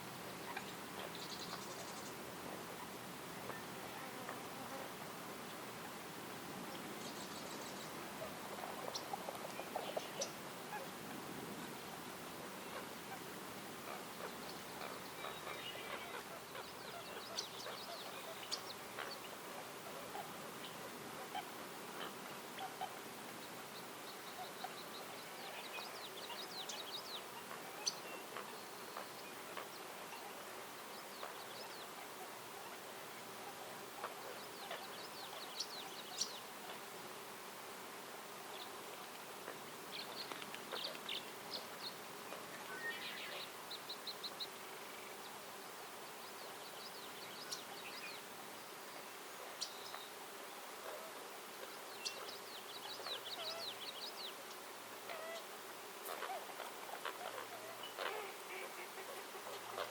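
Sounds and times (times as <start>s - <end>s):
outdoor ambient hiss: 0.0s - 59.9s
songbirds chirping: 0.0s - 59.9s.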